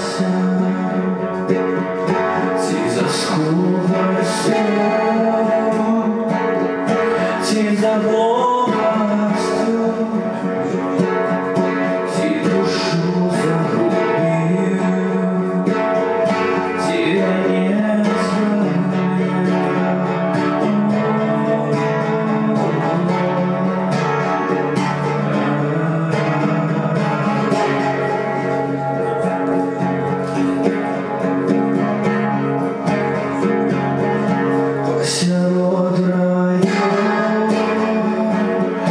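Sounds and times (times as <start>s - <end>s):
acoustic guitar strumming: 0.0s - 38.9s
person singing folk melody: 0.0s - 38.9s.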